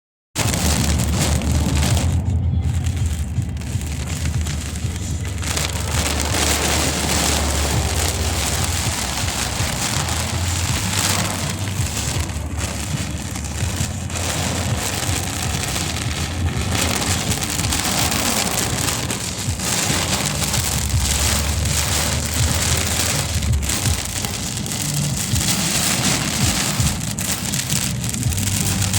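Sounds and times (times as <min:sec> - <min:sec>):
heavy rain hissing: 0:00.4 - 0:28.9
low rumble: 0:00.4 - 0:28.9.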